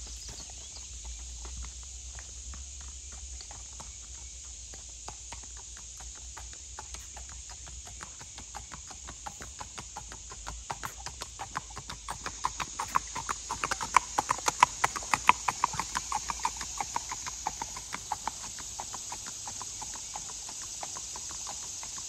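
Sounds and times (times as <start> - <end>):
horse hooves clip-clopping on road: 0.0 - 22.0.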